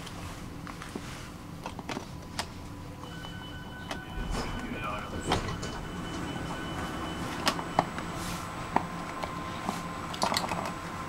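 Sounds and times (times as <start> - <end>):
faint steady whine: 0.0 - 11.0
train interior rumble: 0.0 - 11.0.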